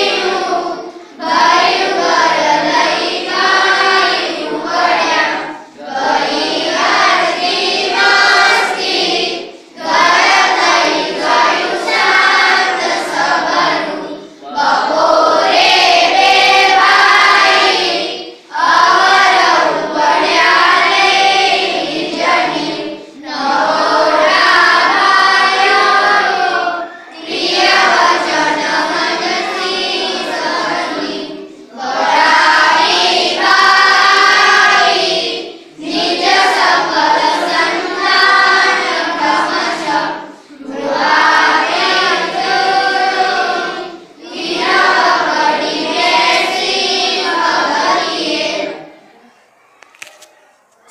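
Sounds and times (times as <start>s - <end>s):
children singing in unison: 0.0s - 50.0s.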